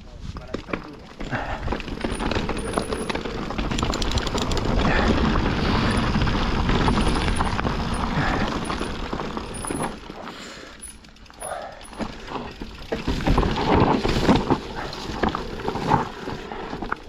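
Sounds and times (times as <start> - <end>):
bike tyres on rocky trail: 0.0 - 17.0
bike rattling clicks: 0.8 - 15.6.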